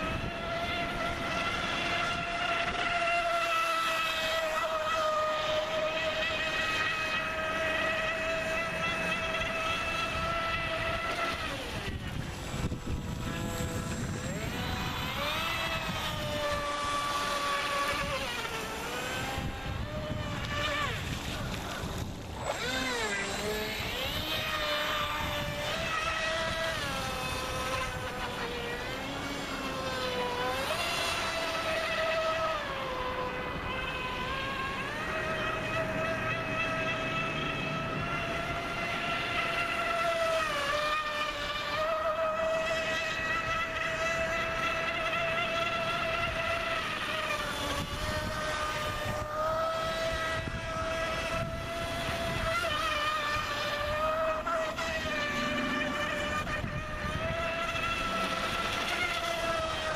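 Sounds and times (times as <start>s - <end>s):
electric boat motor whine: 0.0s - 59.9s
hiss of water and wind: 0.0s - 59.9s.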